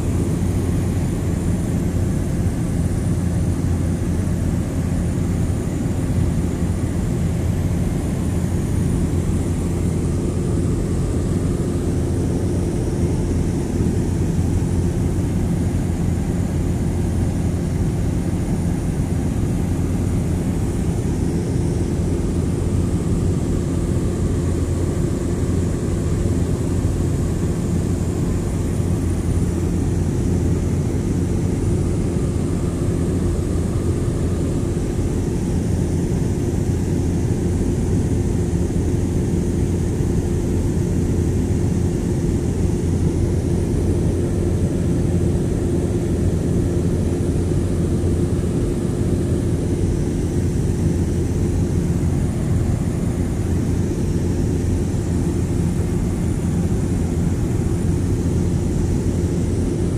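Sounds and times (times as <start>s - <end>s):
airliner engine drone in cabin: 0.0s - 59.9s.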